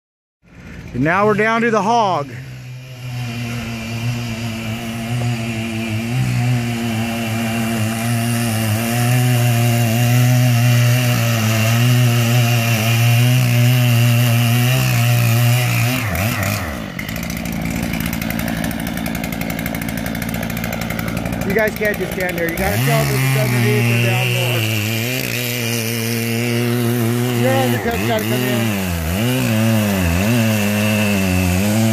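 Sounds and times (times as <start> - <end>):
chainsaw cutting tree: 0.5 - 31.9.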